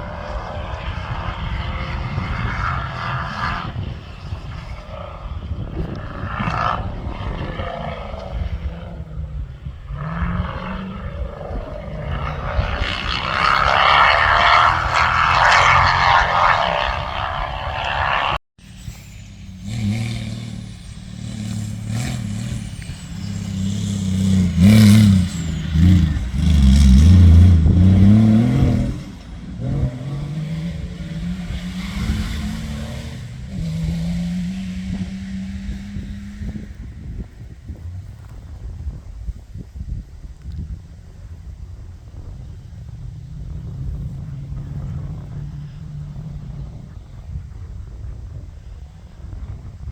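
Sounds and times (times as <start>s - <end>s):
racing engine revving: 0.0s - 39.4s, 41.5s - 49.4s.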